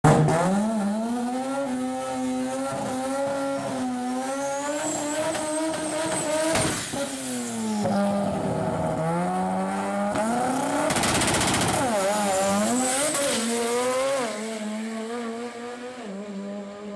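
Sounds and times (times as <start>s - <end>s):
rotary engine revving high: 0.0s - 16.9s.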